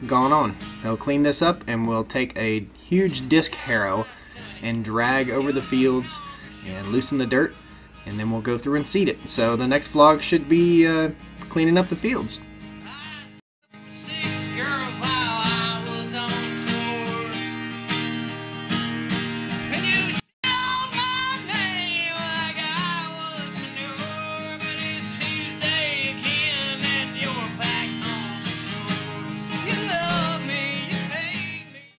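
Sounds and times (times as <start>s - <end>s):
country guitar music: 0.0s - 32.0s.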